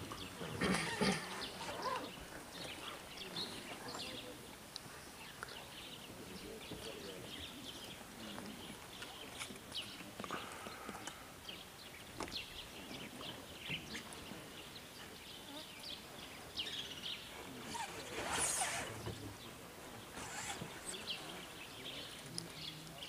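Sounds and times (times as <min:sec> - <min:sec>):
rustle: 0:00.0 - 0:23.0.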